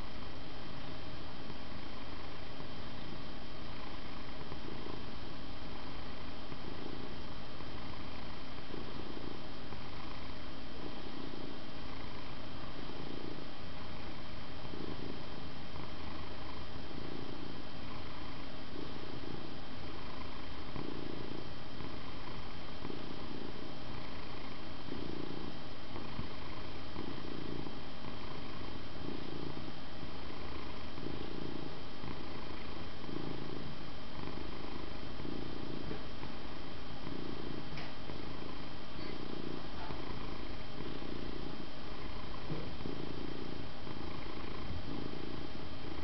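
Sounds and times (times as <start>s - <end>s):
cat purring: 0.0s - 46.0s.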